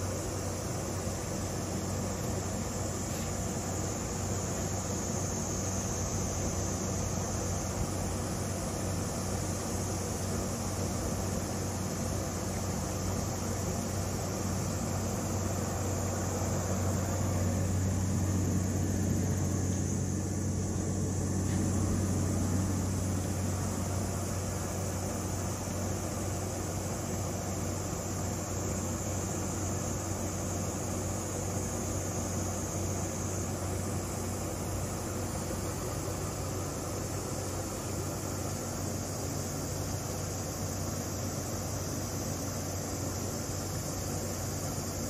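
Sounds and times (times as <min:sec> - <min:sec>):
constant hiss: 0:00.0 - 0:45.0
low mechanical hum: 0:00.0 - 0:45.0.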